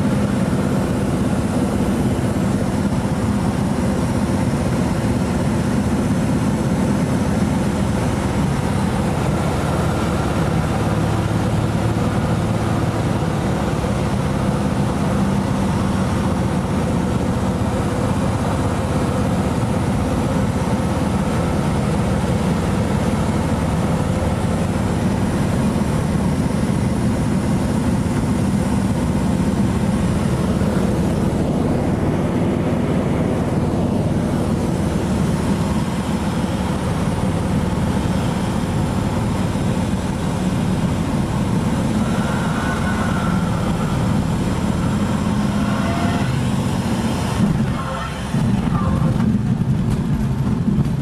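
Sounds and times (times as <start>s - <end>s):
propeller plane engine: 0.0s - 51.0s.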